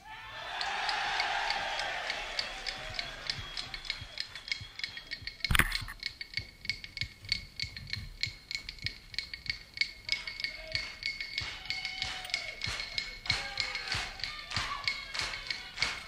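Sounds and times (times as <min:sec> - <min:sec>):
ticking clicks with ringing tone: 0:00.6 - 0:16.0.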